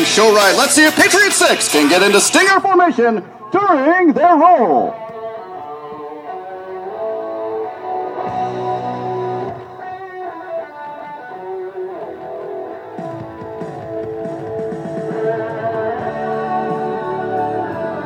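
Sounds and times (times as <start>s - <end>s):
guitar music over loudspeakers: 0.0s - 18.0s.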